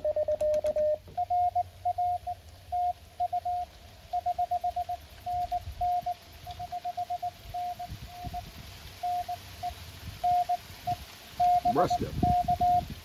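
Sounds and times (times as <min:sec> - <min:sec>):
morse code tone: 0:00.0 - 0:08.4, 0:09.0 - 0:10.6, 0:11.4 - 0:12.9.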